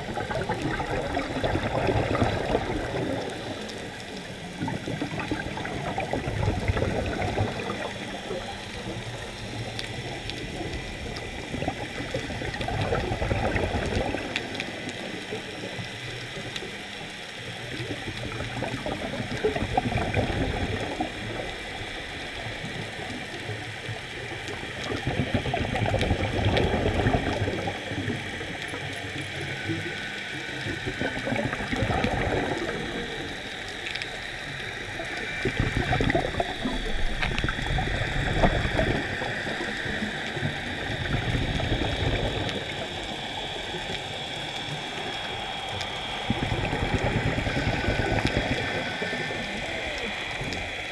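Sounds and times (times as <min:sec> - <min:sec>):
steady watery hiss: 0:00.0 - 0:50.9
underwater bubbles rushing: 0:00.0 - 0:50.9.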